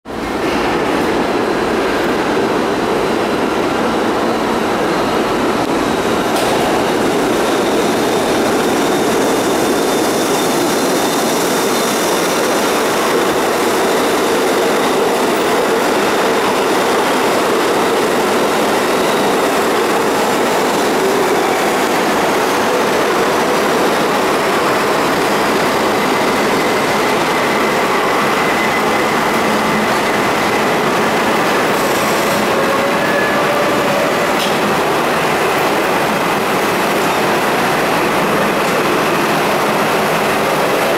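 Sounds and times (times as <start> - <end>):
subway train running on rails: 0.0 - 40.9.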